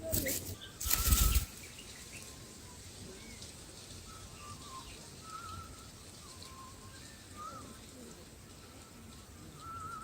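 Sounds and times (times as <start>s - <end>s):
birds whistling faintly: 0.0s - 10.0s.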